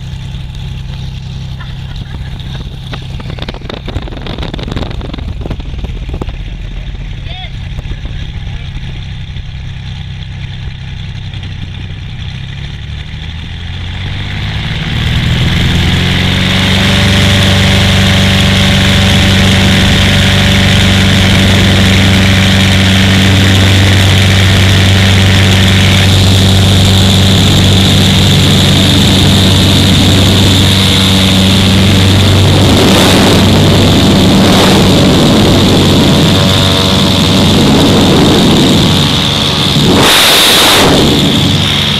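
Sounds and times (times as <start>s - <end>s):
light aircraft engine and propeller: 0.0s - 41.9s.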